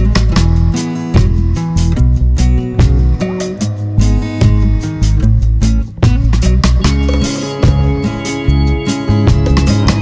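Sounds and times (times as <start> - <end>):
bass and drums beat: 0.0 - 10.0
guitar: 0.0 - 10.0.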